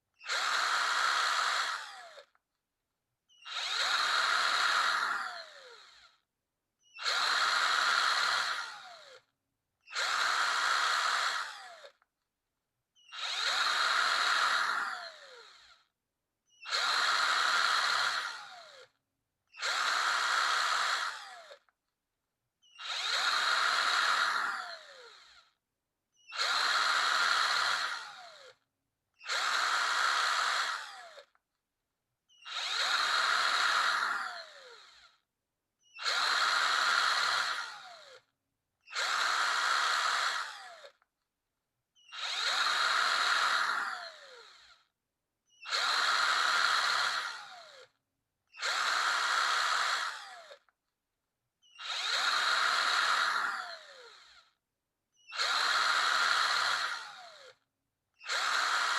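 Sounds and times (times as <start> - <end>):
electric drill whining: 0.2 - 2.4, 3.3 - 12.1, 13.0 - 15.9, 16.5 - 21.8, 22.6 - 25.6, 26.2 - 28.6, 29.2 - 31.4, 32.3 - 41.0, 42.0 - 44.9, 45.5 - 50.7, 51.6 - 54.6, 55.2 - 57.6, 58.2 - 58.9.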